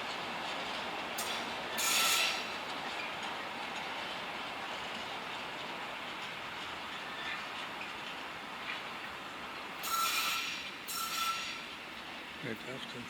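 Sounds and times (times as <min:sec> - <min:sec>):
wheels screeching on rails: 0:00.0 - 0:12.6
train rolling on rails: 0:00.0 - 0:13.0.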